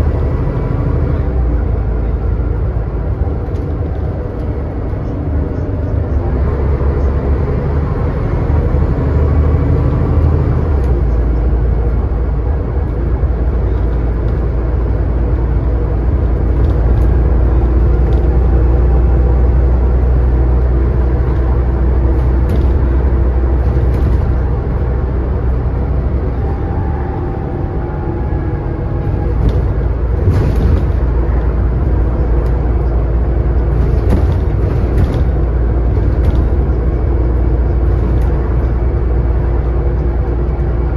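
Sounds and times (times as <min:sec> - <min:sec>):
bus engine drone: 0:00.0 - 0:40.9
road rumble: 0:00.0 - 0:40.9.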